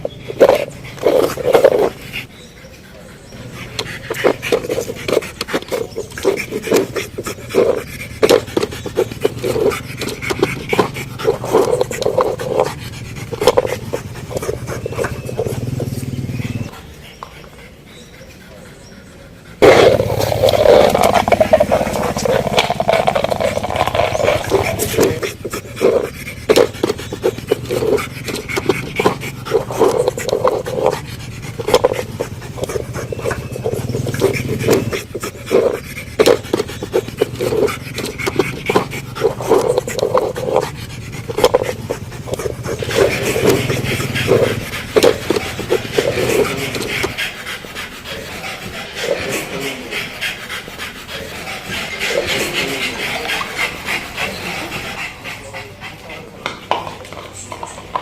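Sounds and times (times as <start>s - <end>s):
dog panting: 0.0s - 58.0s.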